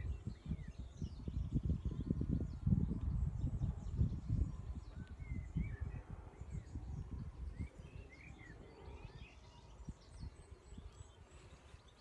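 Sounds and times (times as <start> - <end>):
small birds chirping: 0.0 - 12.0
wind buffeting microphone: 0.0 - 12.0.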